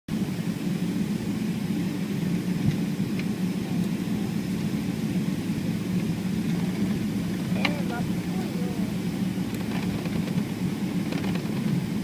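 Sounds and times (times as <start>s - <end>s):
airliner cabin engine hum: 0.1s - 12.0s.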